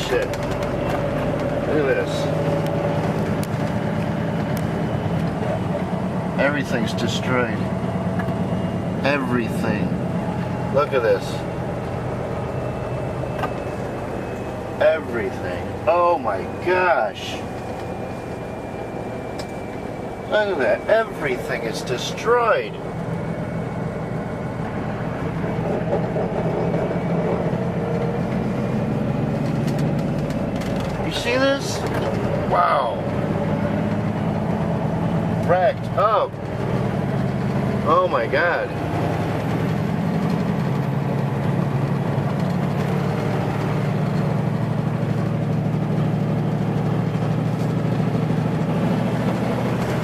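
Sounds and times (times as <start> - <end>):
road noise: 0.0 - 50.0
vehicle engine hum: 0.0 - 50.0.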